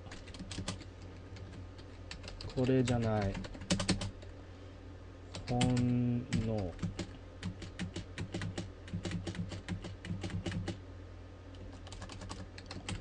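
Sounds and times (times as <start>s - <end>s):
typing on computer keyboard: 0.1s - 4.2s, 5.3s - 10.8s, 11.7s - 13.0s.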